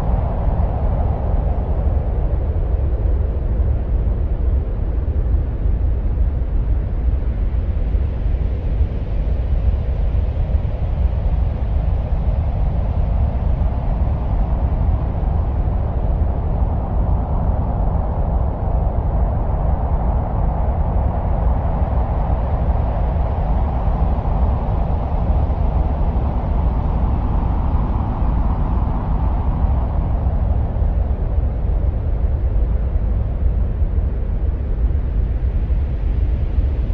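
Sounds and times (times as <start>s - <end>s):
deep wind-like noise: 0.0s - 36.9s.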